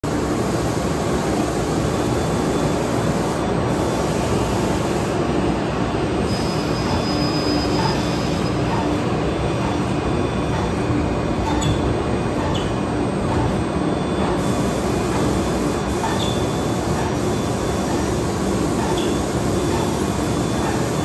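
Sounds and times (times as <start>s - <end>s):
cnc router whirring: 2.1s - 21.0s.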